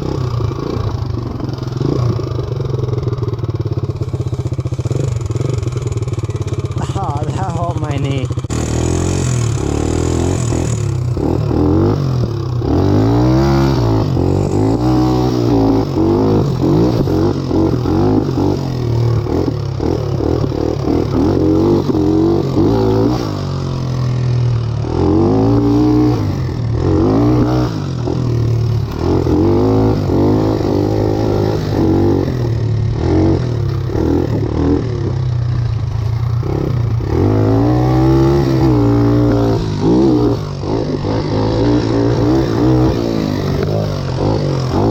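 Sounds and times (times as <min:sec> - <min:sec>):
tractor engine revving: 0:04.4 - 0:24.2, 0:24.8 - 0:44.9.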